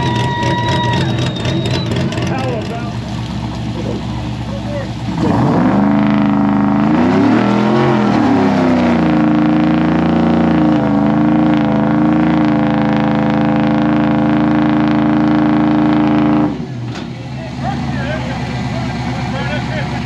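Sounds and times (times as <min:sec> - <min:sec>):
truck engine revving hard: 0:00.0 - 0:20.0.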